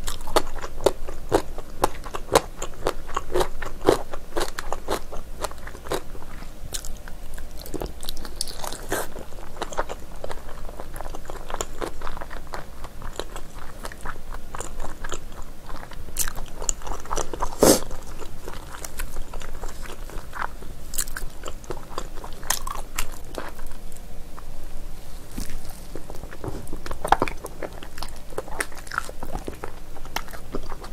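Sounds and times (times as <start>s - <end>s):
chewing and biting: 0.0s - 24.1s, 25.3s - 30.9s.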